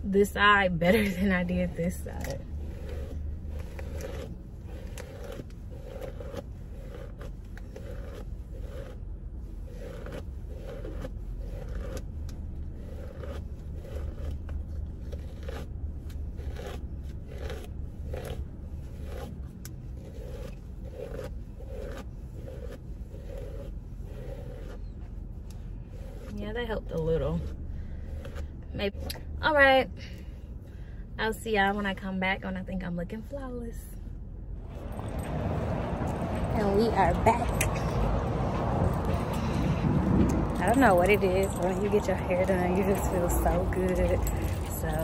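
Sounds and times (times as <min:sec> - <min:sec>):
brush scratching through hair: 0:00.0 - 0:29.0, 0:34.7 - 0:45.0
low steady hum: 0:00.0 - 0:45.0.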